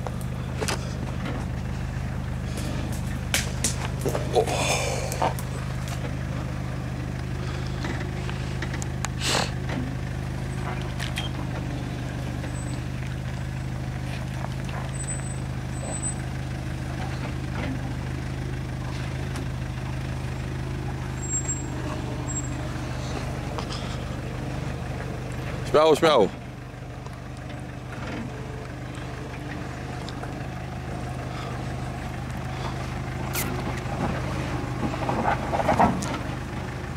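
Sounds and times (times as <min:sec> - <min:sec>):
car engine at low revs: 0:00.0 - 0:36.9.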